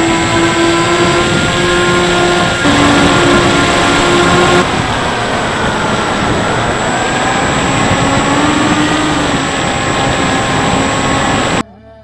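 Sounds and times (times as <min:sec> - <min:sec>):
electric motor and propeller whine: 0:00.0 - 0:11.6
wind rush on microphone: 0:00.0 - 0:11.6.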